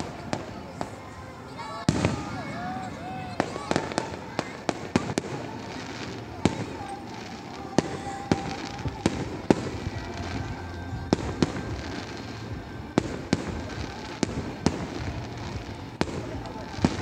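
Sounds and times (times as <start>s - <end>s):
fireworks bangs: 0.0s - 17.0s
rumble of smaller fireworks bursts: 0.0s - 17.0s.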